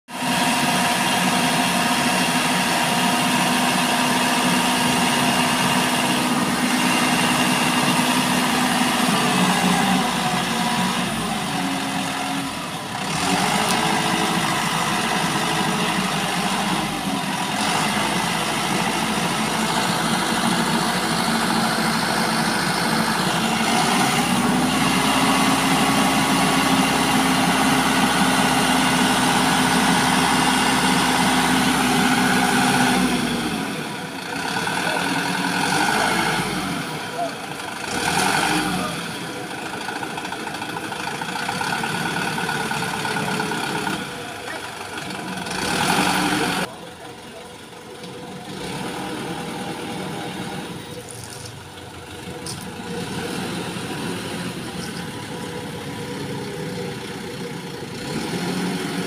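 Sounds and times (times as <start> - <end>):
diesel truck engine running: 0.1 - 59.0.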